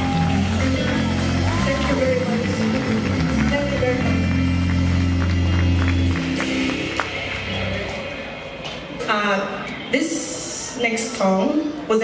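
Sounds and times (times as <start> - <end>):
live band playing: 0.0 - 11.9.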